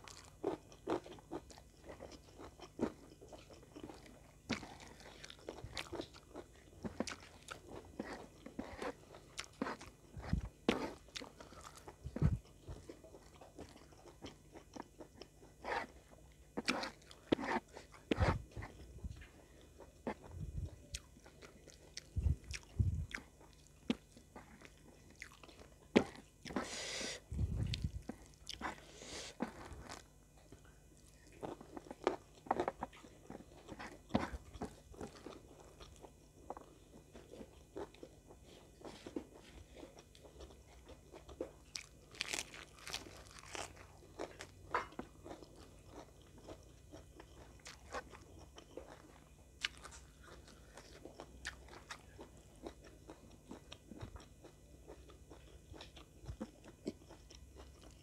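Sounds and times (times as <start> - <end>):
crisp crunching and chewing: 0.0 - 26.8, 27.4 - 58.0.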